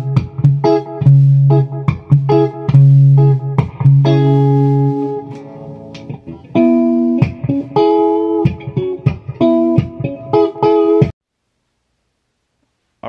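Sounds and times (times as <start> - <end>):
electric guitar chords and notes: 0.0 - 11.2.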